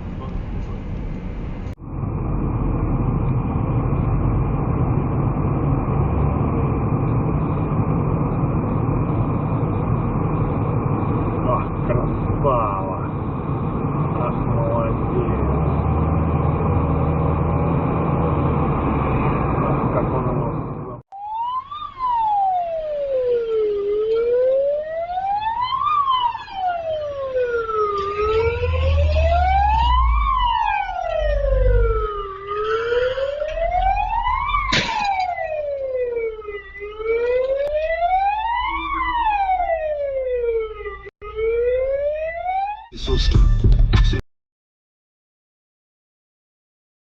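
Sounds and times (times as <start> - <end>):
road and engine noise: 0.0 - 43.3
emergency vehicle siren wailing: 1.8 - 43.2.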